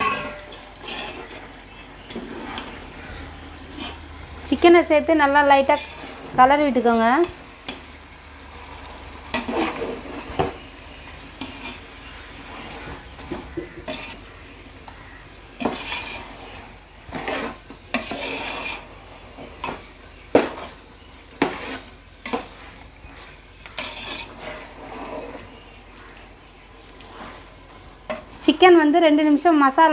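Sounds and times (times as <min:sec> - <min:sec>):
metal spatula scraping a pot: 0:00.0 - 0:07.9, 0:08.8 - 0:28.7
steady sizzle: 0:00.0 - 0:29.9.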